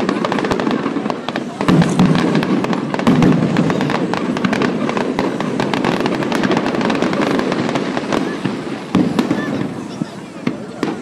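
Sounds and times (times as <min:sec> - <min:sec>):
fireworks cracking: 0:00.0 - 0:11.0.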